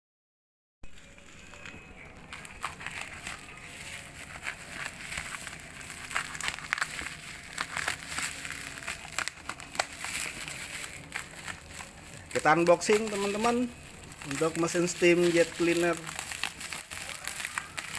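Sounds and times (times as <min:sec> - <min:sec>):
packaging crinkling: 0:00.9 - 0:17.9.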